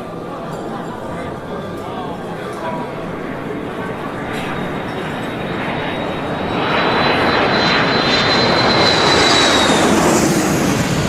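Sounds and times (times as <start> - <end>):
propeller plane flying: 1.7 - 11.0.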